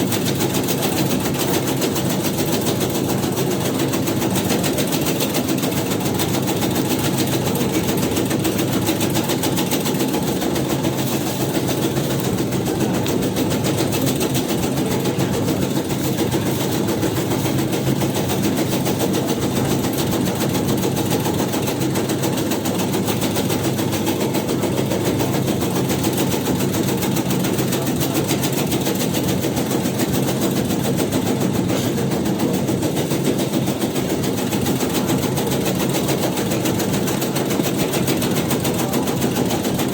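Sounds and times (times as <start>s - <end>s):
tobacco shredding machine running: 0.0s - 39.9s.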